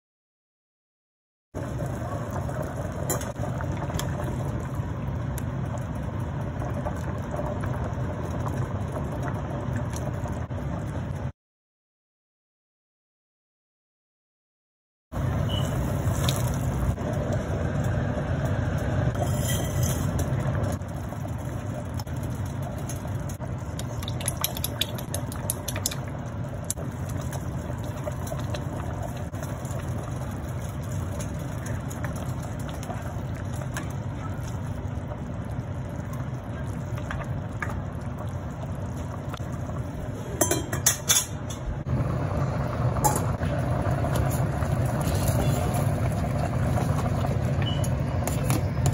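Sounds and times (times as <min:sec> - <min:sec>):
pot of broth boiling: 0:01.6 - 0:11.3, 0:15.2 - 0:48.9.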